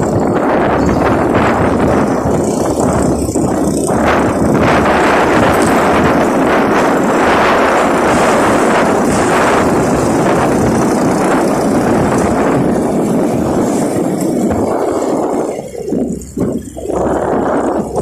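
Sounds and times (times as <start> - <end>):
motorcycle engine: 0.0 - 18.0
road noise: 0.0 - 18.0
wind rush on microphone: 0.0 - 18.0.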